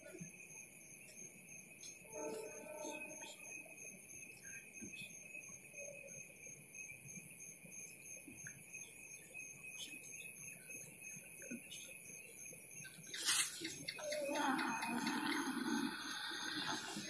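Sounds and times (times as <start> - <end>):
faint low background noise: 0.0 - 17.0
night insects calling: 0.0 - 17.0.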